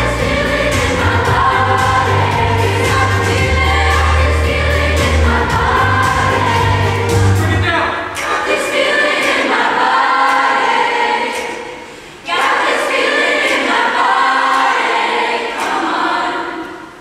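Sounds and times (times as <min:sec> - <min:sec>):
youth choir singing: 0:00.0 - 0:17.0.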